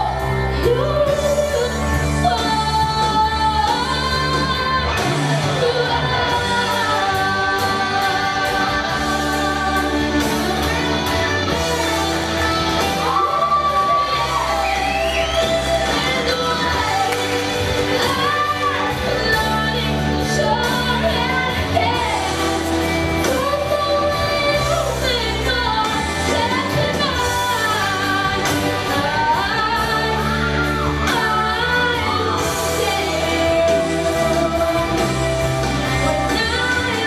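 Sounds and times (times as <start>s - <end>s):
girl singing: 0.0s - 10.7s, 11.5s - 22.6s, 23.2s - 35.3s, 36.0s - 37.0s
backing music with bass: 0.0s - 37.0s.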